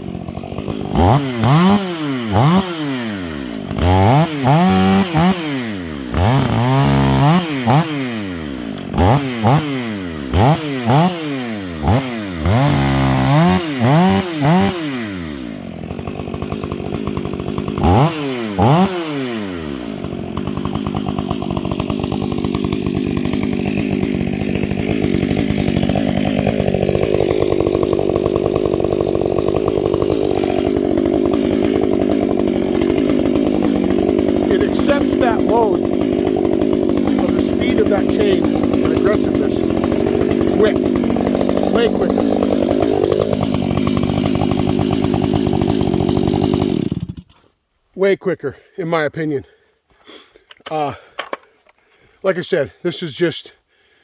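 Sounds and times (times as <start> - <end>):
chainsaw revving and cutting wood: 0.0 - 54.0.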